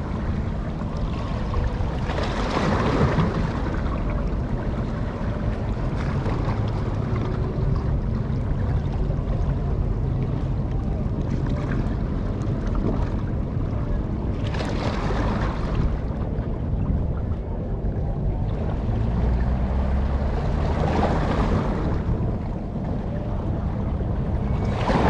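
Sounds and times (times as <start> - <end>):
low rumble: 0.0 - 25.0
water noise: 0.0 - 25.0
wind: 0.0 - 25.0.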